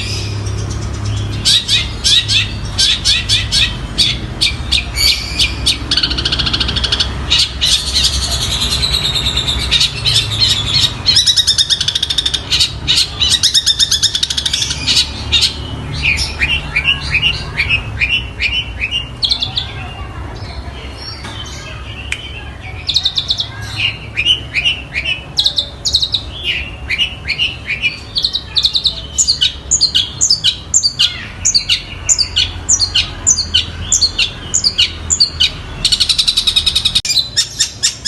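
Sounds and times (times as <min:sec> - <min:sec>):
bird chirps and trills: 0:00.0 - 0:38.0.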